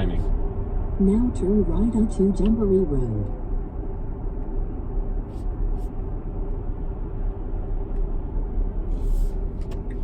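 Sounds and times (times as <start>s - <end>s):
road and tyre rumble in car: 0.0s - 10.0s.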